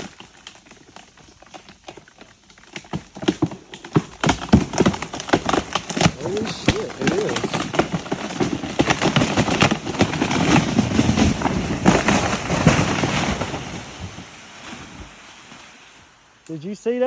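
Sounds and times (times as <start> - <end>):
tree falling with cracking wood: 0.0 - 15.8.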